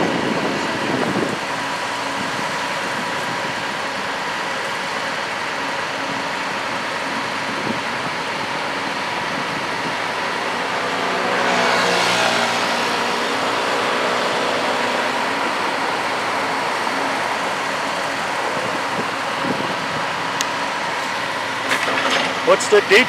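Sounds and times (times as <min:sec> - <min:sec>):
construction machinery diesel engine: 0:00.0 - 0:23.0.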